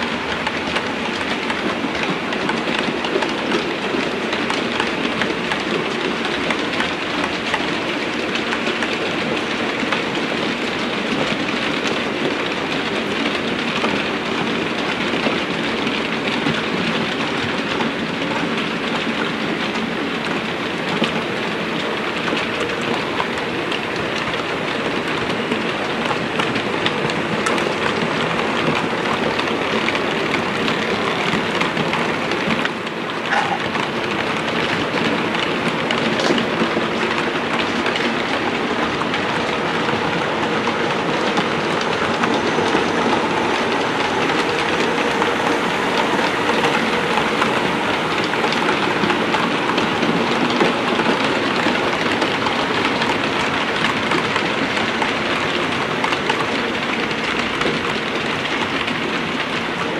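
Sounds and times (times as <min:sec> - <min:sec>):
wheels clicking over rail joints: 0:00.0 - 0:59.9.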